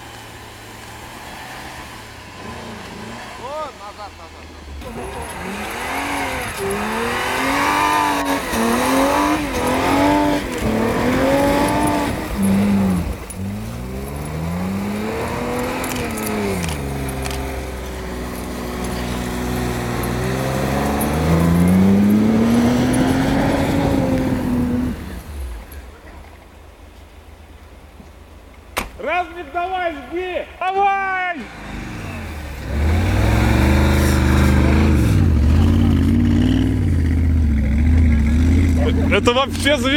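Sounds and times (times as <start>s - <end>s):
car engine revving: 0.0s - 25.9s, 31.4s - 39.9s.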